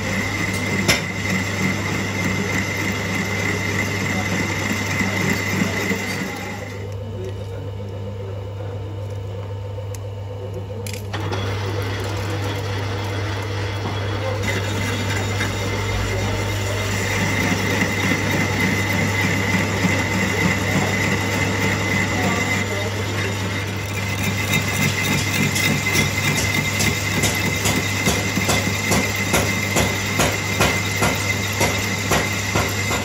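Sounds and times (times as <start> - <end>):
lathe humming: 0.0 - 33.0.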